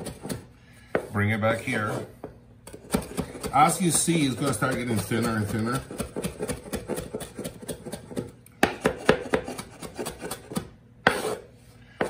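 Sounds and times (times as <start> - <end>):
knife chopping on wooden board: 0.0 - 1.1, 2.6 - 11.4.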